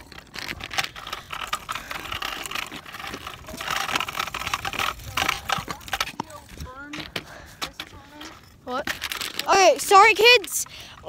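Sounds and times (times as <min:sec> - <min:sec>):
kick scooter wheels rattling: 0:00.0 - 0:11.0.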